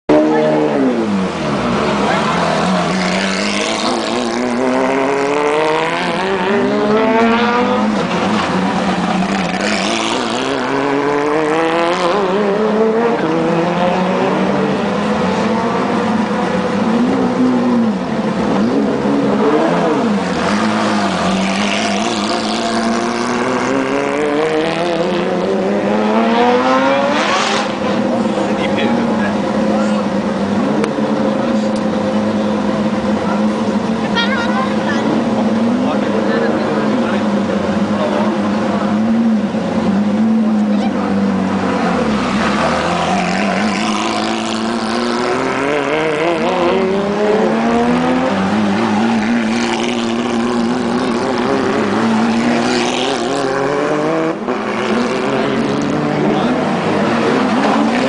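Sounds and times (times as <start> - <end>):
race car engine steady: 0.0 - 58.0
race car engines revving: 0.0 - 58.0.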